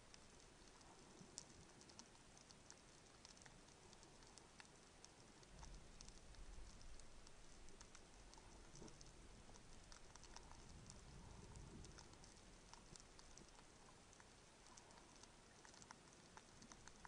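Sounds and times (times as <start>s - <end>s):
low rumble of water: 0.0s - 17.0s
underwater clicks and crackles: 0.0s - 17.0s.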